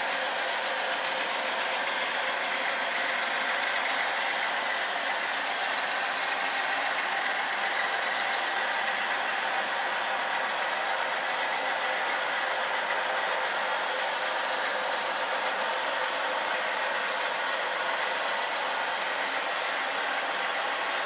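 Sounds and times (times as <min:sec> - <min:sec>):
model train wheels rattling on rails: 0:00.0 - 0:21.0.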